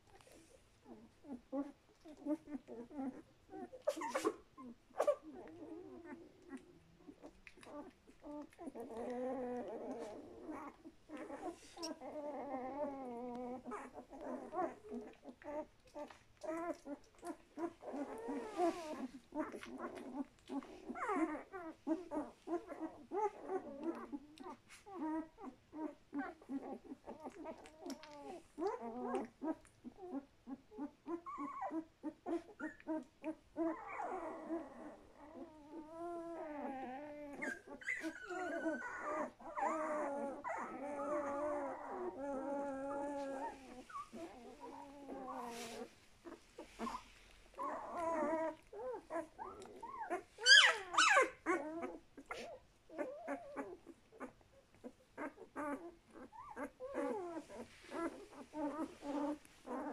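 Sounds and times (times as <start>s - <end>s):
puppies whimpering and whining: 0.0s - 59.9s.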